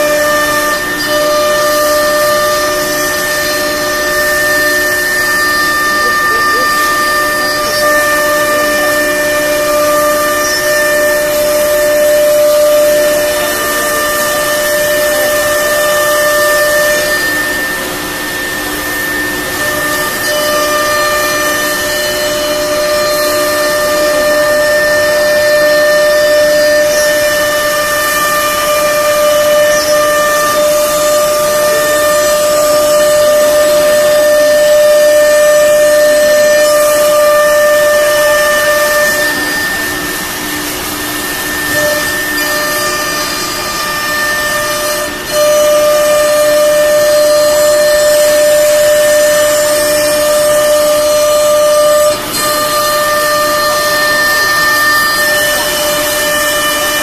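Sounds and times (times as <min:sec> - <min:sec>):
router spindle high-pitched whine: 0:00.0 - 0:57.0
hiss of cutting wood: 0:00.1 - 0:57.0.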